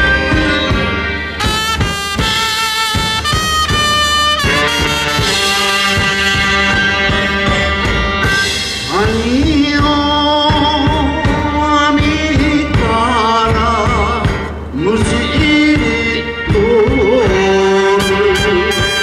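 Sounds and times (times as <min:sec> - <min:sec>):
live band playing: 0:00.0 - 0:19.0
man singing with vibrato: 0:00.0 - 0:19.0.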